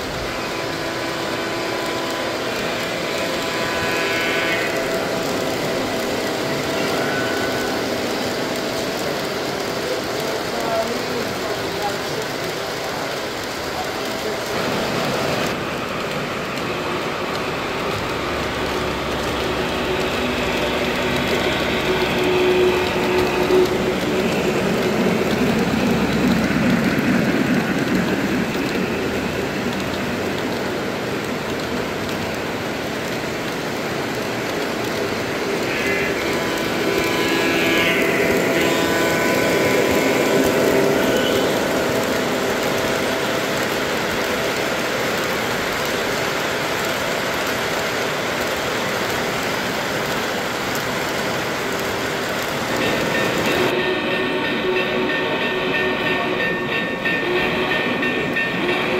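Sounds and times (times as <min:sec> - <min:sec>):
model train wheels rolling on rails: 0:00.0 - 0:58.9.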